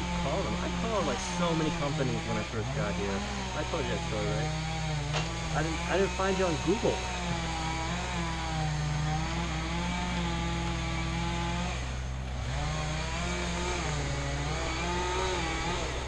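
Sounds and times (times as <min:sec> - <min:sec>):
chainsaw engine idling: 0:00.0 - 0:16.0.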